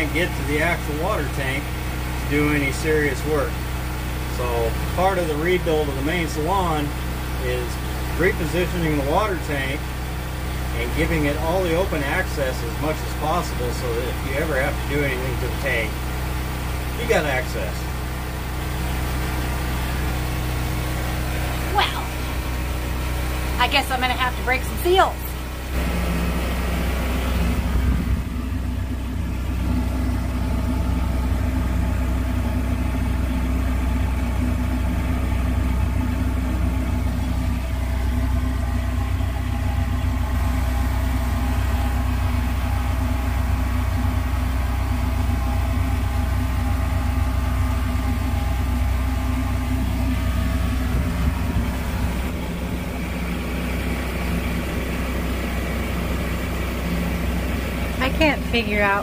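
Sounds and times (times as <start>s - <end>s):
motor humming: 0.0s - 59.0s.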